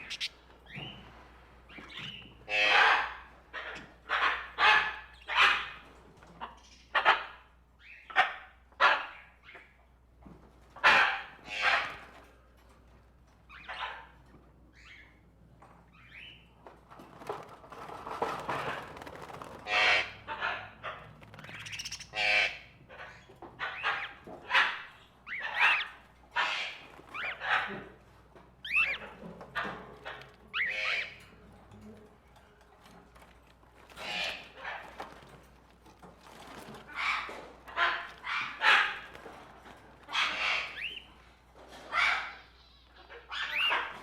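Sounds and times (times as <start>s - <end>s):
birds squawking and chirping: 0.0s - 10.0s, 10.8s - 12.3s, 13.2s - 44.0s.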